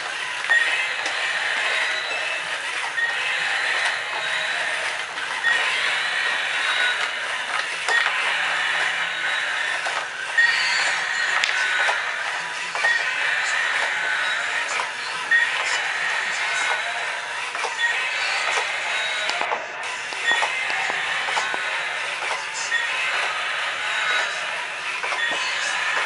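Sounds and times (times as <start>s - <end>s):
toy motor whirring and clattering: 0.0s - 26.0s.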